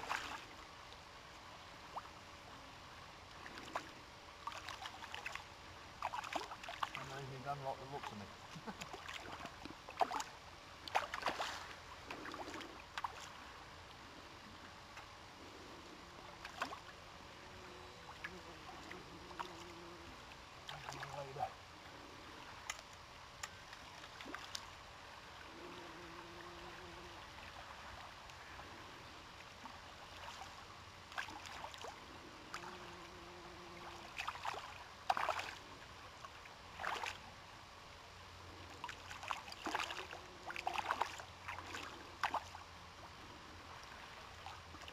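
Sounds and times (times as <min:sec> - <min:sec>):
flowing creek water: 0:00.0 - 0:44.9.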